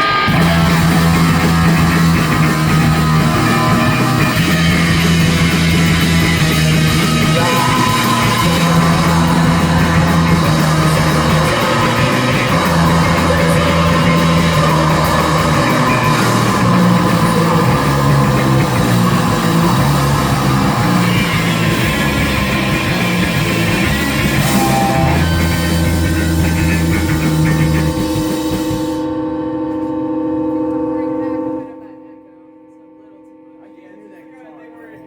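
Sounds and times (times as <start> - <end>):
heavy rock band playing: 0.0 - 29.3
distorted electric guitar riff: 0.0 - 32.1.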